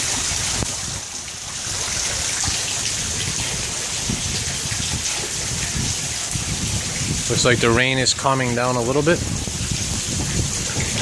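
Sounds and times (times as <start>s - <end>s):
heavy rain falling: 0.0s - 11.0s
water splashing and trickling: 0.0s - 11.0s.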